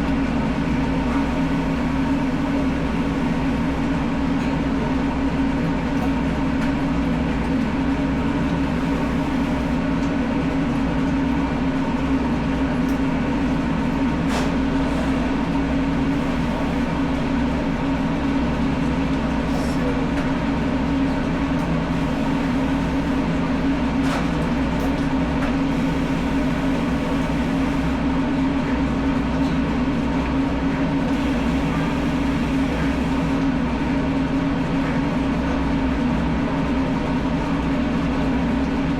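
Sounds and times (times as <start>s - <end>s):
machinery humming: 0.0s - 38.9s.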